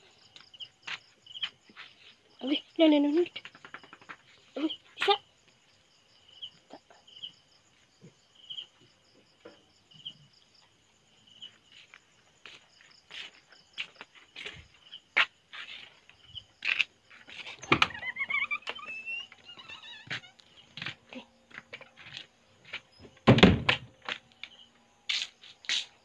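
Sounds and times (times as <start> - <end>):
crickets chirping: 0.0 - 26.0
high pulsing insect trill: 0.0 - 26.0.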